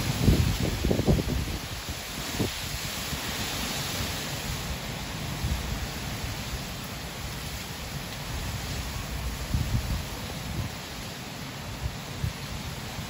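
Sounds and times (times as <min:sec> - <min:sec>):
heavy rain hissing: 0:00.0 - 0:13.0
wind gusts on microphone: 0:00.0 - 0:13.0.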